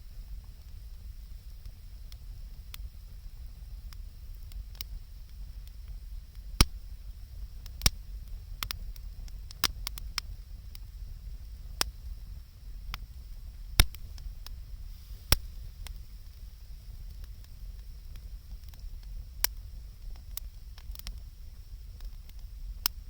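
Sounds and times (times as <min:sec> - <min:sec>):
low steady rumble: 0:00.0 - 0:23.0
campfire crackling and popping: 0:00.1 - 0:23.0.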